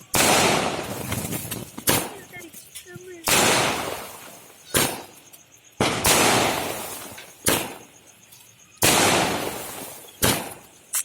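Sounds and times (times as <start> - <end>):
firecrackers bursting: 0.0 - 11.0.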